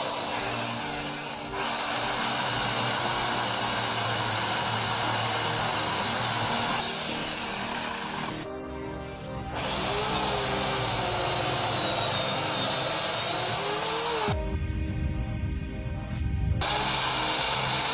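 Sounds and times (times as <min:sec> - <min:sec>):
wood chipper grinding: 0:00.0 - 0:08.5, 0:09.5 - 0:14.4, 0:16.6 - 0:17.9.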